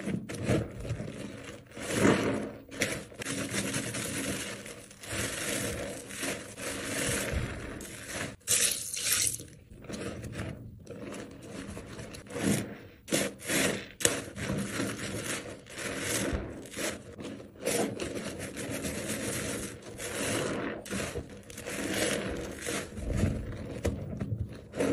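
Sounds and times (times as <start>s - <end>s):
soapy sponge squishing: 0.0s - 24.9s.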